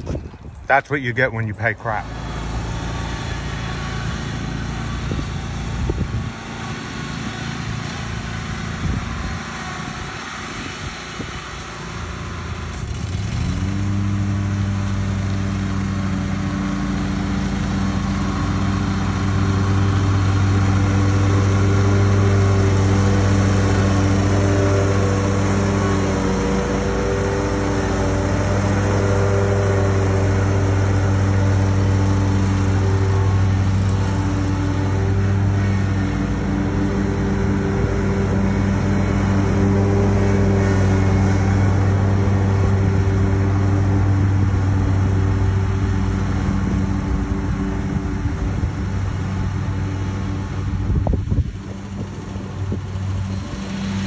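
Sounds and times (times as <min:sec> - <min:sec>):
small engine revving: 0:01.8 - 0:54.0.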